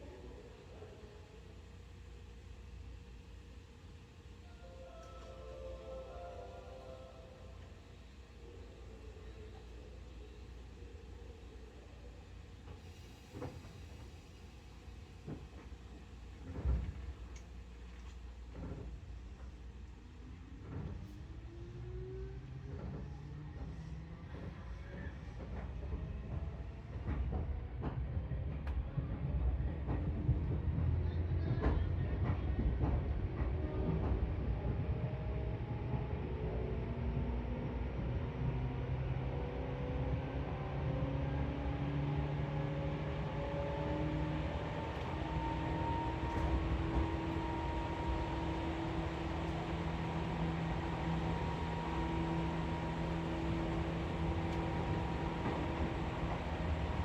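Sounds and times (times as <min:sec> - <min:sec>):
train low rumble: 0:00.0 - 0:57.0.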